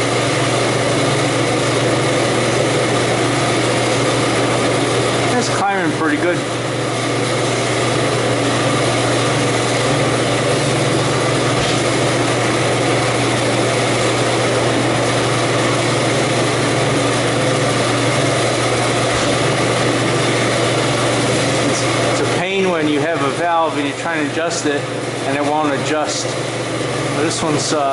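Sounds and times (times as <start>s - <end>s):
fan humming: 0.0s - 27.9s.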